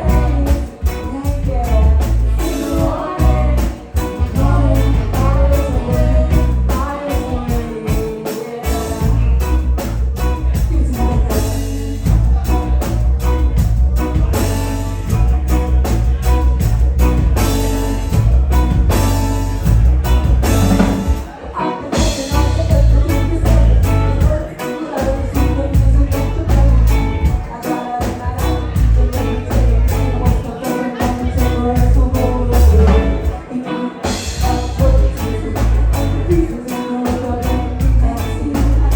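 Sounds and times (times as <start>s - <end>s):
live band playing: 0.0s - 38.9s
person singing: 0.0s - 38.9s.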